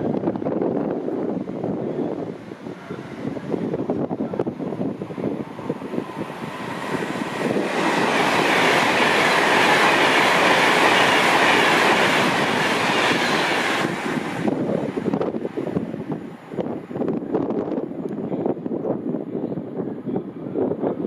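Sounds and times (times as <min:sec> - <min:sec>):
train passing at speed: 0:00.0 - 0:19.0
wind buffeting microphone: 0:00.0 - 0:21.0.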